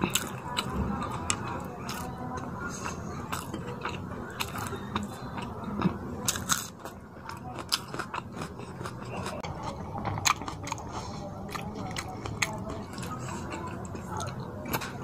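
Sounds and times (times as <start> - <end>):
eating clicks and crunches: 0.0 - 15.0
wet chewing and biting: 0.0 - 15.0.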